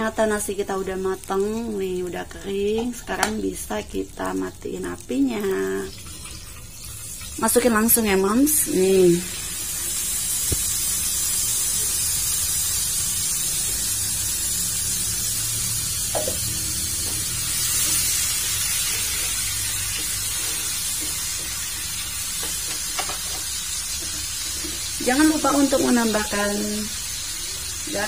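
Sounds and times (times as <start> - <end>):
paste sizzling in hot oil: 0.0 - 28.0.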